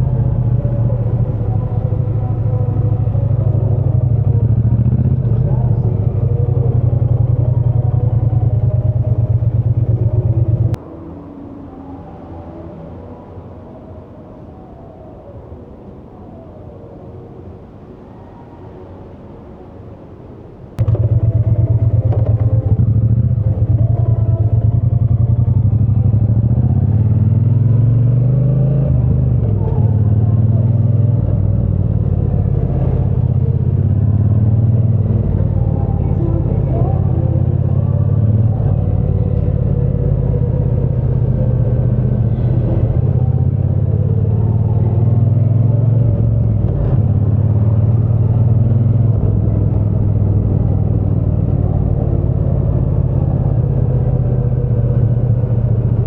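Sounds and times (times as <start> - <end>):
motorcycle engine and exhaust: 0.0 - 10.9, 20.8 - 56.0.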